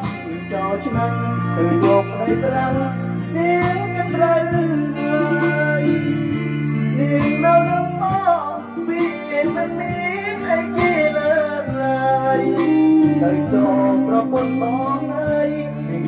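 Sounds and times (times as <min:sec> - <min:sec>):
karaoke backing track: 0:00.0 - 0:16.0
man singing into a microphone: 0:00.0 - 0:16.0.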